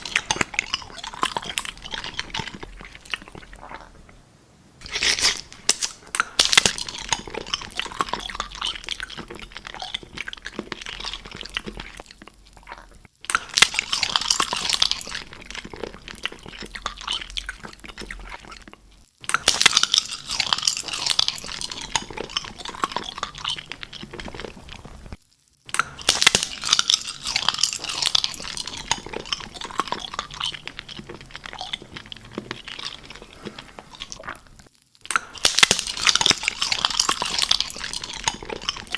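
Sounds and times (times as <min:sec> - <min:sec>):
crunchy biting and chewing: 0:00.0 - 0:04.2, 0:04.8 - 0:38.9.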